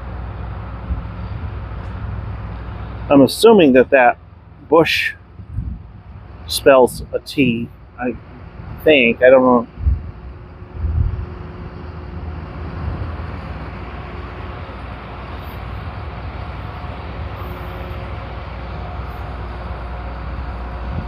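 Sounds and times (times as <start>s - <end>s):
vehicle traffic rumble: 0.0s - 21.0s.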